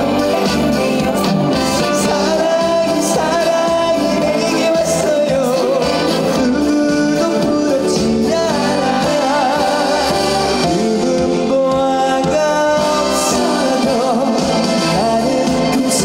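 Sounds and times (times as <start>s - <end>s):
instrumental accompaniment: 0.0s - 16.0s
man singing with vibrato: 0.0s - 16.0s.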